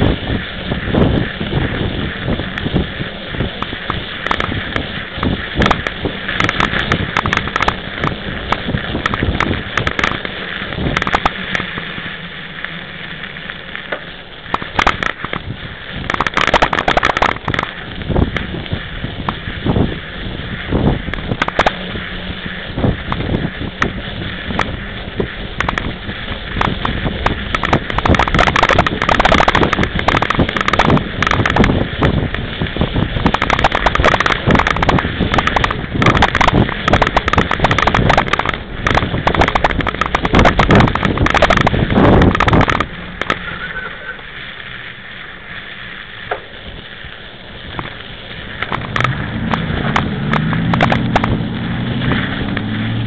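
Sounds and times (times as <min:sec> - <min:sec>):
bike clattering over bumps: 0:00.0 - 0:43.6, 0:44.2 - 0:53.0
bike tyres crunching on snow: 0:00.0 - 0:53.0
wind buffeting microphone: 0:00.0 - 0:53.0.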